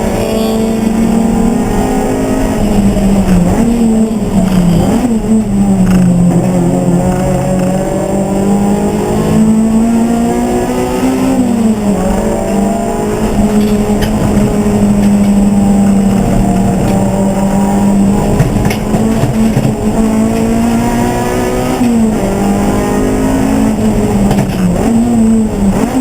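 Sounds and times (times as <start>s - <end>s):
race car engine running hard: 0.0s - 26.0s.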